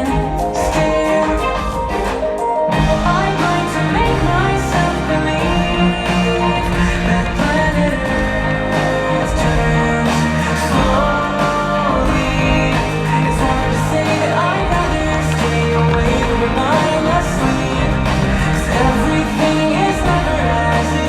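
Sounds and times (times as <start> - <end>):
pop song with singing: 0.0 - 21.0
steady bass line: 0.0 - 21.0.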